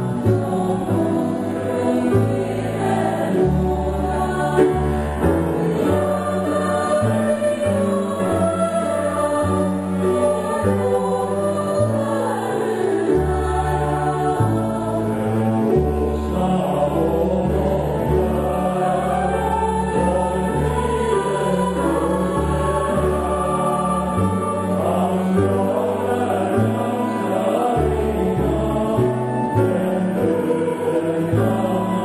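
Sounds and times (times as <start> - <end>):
choir singing in harmony: 0.0 - 32.0
double bass playing low notes: 0.0 - 32.0.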